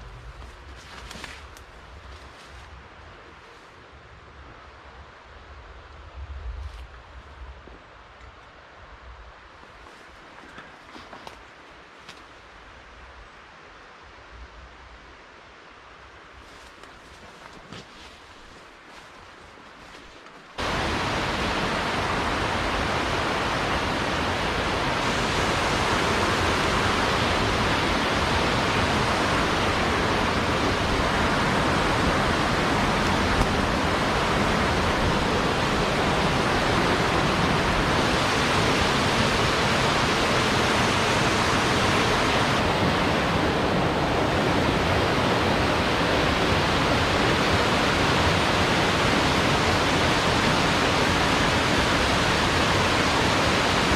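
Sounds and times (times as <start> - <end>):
mountain stream rushing: 7.8 - 53.9.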